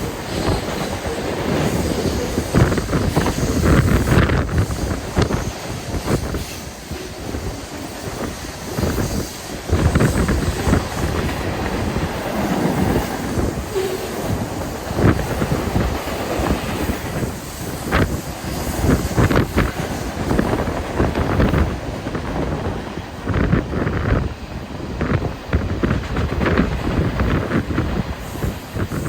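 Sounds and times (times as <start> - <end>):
train rumbling: 0.0 - 29.0
train wheels clattering over joints: 0.0 - 29.0
wind buffeting microphone: 0.0 - 29.0.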